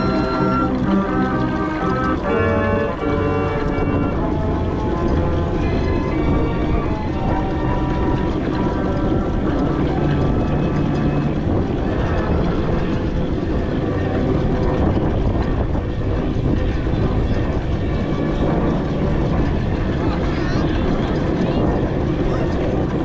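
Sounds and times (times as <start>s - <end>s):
steam engine running: 0.0s - 23.0s.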